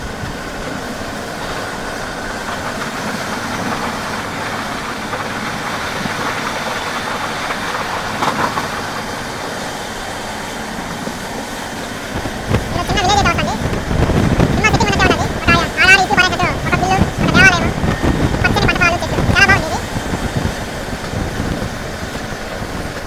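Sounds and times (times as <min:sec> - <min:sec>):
train clatter: 0:00.0 - 0:23.0
train rumbling and rattling: 0:00.0 - 0:23.0.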